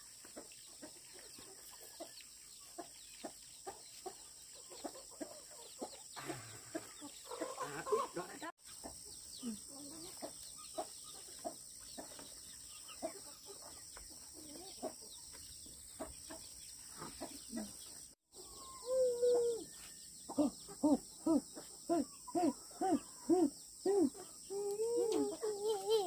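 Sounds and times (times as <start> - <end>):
chicken clucking: 0.0 - 26.0
chickens calling: 0.0 - 26.0.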